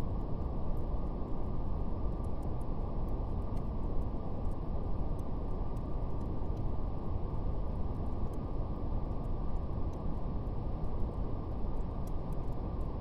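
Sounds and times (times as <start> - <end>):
faint wood fire crackles: 0.0 - 13.0.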